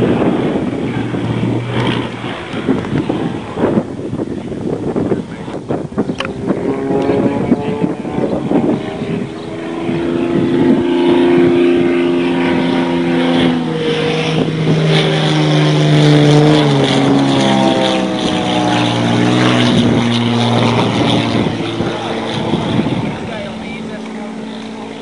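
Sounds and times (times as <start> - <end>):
propeller plane engine: 0.0 - 25.0.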